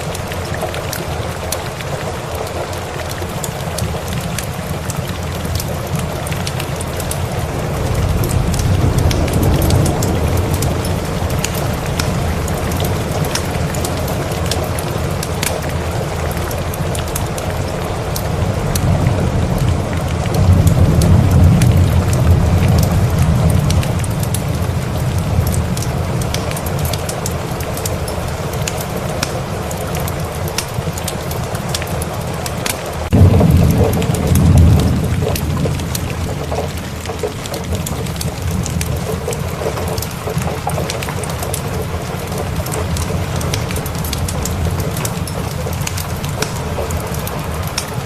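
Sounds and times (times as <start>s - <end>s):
thunder rumbling: 0.0s - 32.2s, 32.8s - 48.0s
log fire crackling: 0.0s - 48.0s
steady rain: 0.0s - 48.0s.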